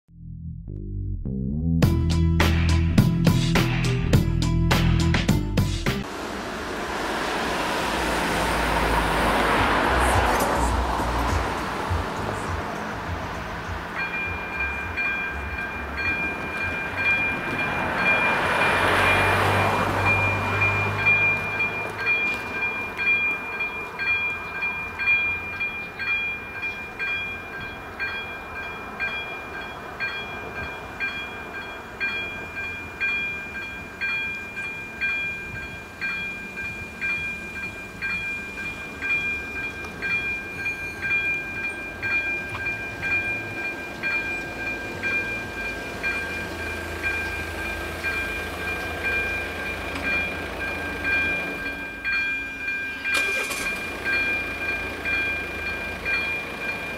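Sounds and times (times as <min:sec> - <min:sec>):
level crossing warning bell: 0:07.6 - 0:56.9.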